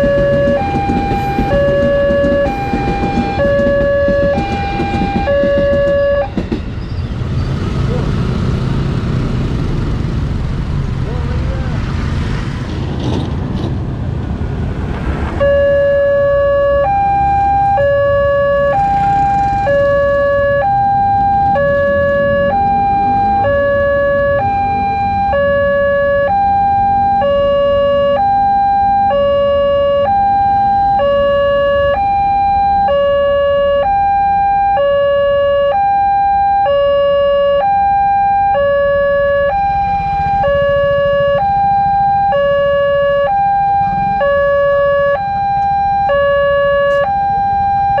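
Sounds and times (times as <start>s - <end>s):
level crossing two-tone alarm: 0.0s - 6.4s, 15.4s - 48.0s
road traffic rumble: 0.0s - 48.0s.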